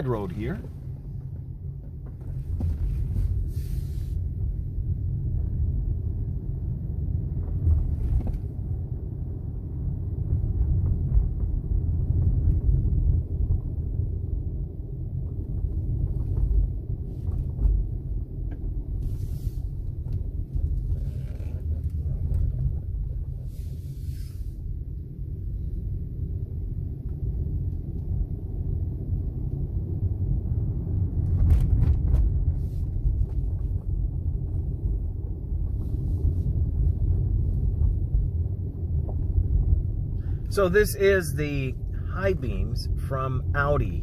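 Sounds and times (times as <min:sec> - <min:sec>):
car interior road rumble: 0:00.0 - 0:44.0.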